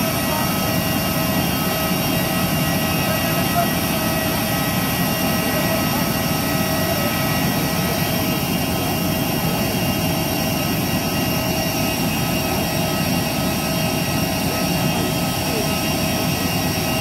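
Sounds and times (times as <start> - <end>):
jet turbine roaring: 0.0 - 17.0.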